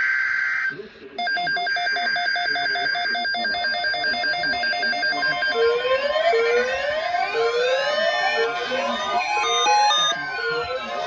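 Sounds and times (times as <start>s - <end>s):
rapid electronic beeping: 0.0s - 11.0s.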